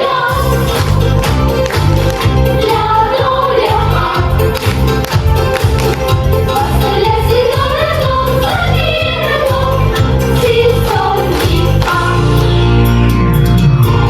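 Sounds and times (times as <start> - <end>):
musical accompaniment with beat: 0.0 - 14.0.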